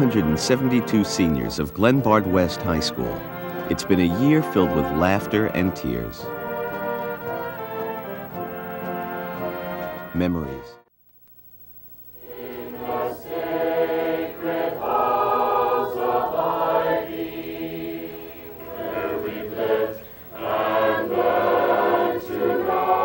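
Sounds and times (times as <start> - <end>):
choir singing sustained notes: 0.0 - 10.8, 12.2 - 23.0.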